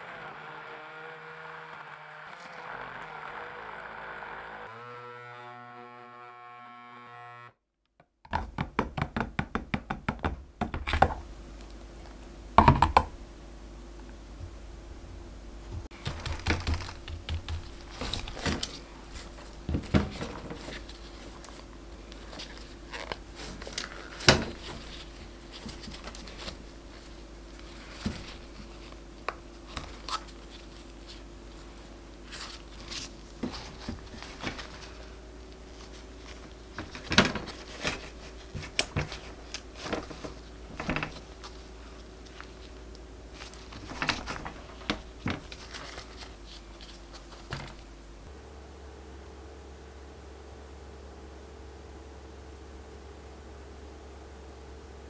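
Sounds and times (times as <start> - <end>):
faint steady hum: 8.4 - 55.0.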